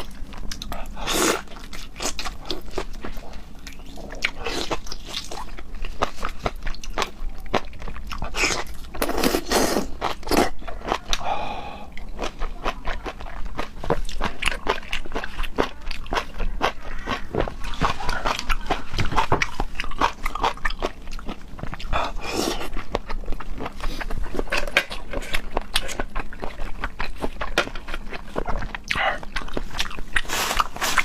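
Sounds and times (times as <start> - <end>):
chewing with mouth clicks: 0.0 - 11.3, 11.9 - 31.0.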